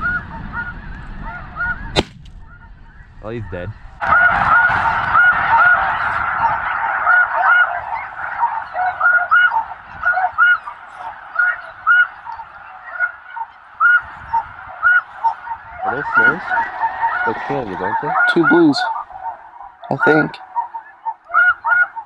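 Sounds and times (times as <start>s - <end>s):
snow geese honking: 0.0s - 22.0s.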